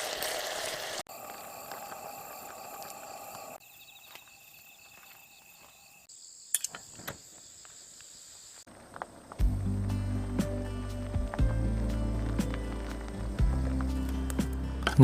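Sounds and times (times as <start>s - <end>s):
crickets chirping: 1.1s - 14.8s.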